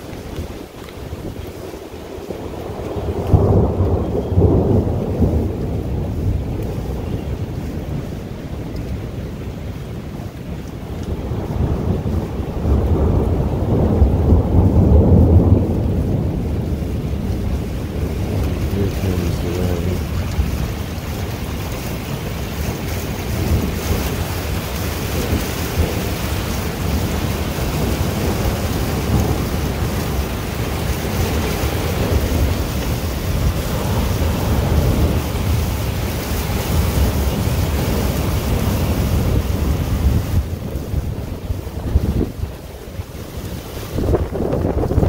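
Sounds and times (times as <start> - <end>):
low rumble of thunder: 0.0 - 45.0
rain hissing: 0.0 - 45.0
wind: 0.0 - 45.0.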